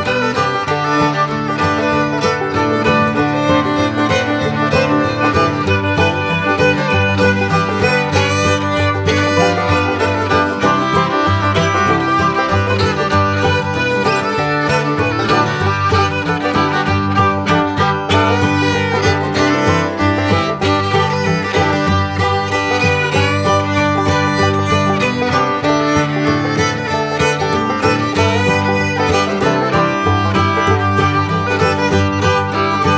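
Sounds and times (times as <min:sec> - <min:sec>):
upbeat bluegrass tune: 0:00.0 - 0:32.9.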